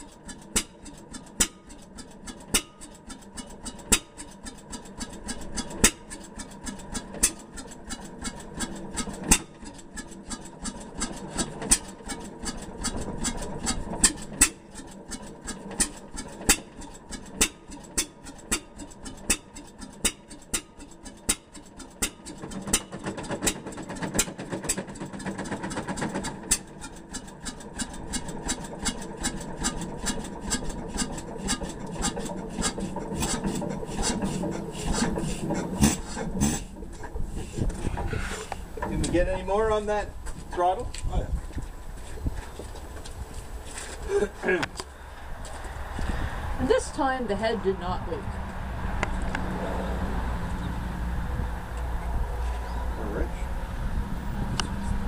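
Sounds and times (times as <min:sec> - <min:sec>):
hit-and-miss engine clacking: 0:00.0 - 0:55.0.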